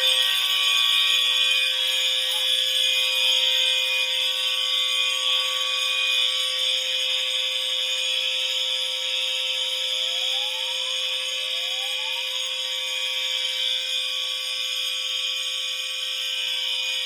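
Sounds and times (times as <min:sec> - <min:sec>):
shrill high horn tone: 0:00.0 - 0:17.0.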